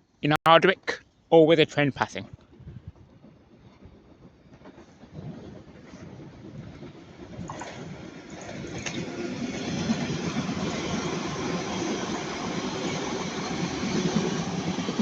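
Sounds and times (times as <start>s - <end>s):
electric train running past: 2.4s - 15.0s.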